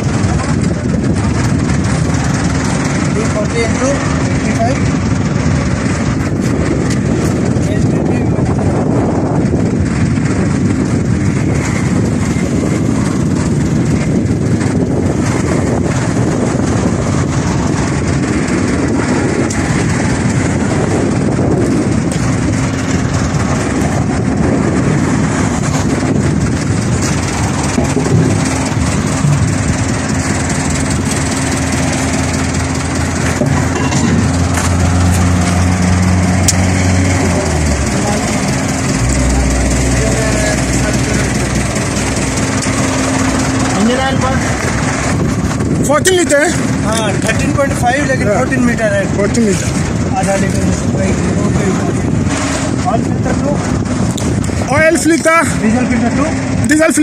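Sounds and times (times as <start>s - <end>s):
diesel engine running: 0.0s - 57.0s
wind on microphone: 0.0s - 57.0s.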